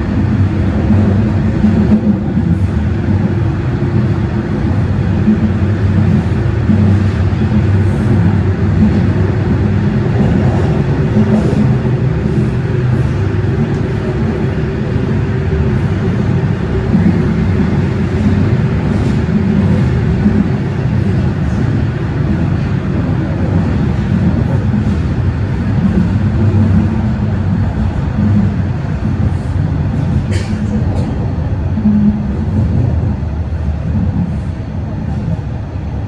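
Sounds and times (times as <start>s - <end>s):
subway train rumble: 0.0s - 36.0s.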